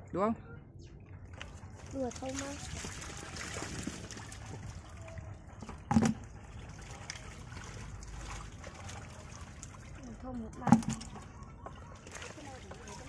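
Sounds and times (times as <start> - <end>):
mud and water sloshing: 1.1 - 13.0.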